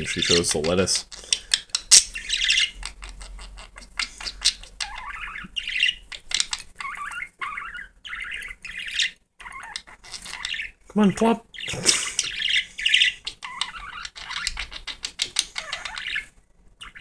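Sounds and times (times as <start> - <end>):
budgerigar chirping: 0.0 - 10.8, 11.5 - 17.0.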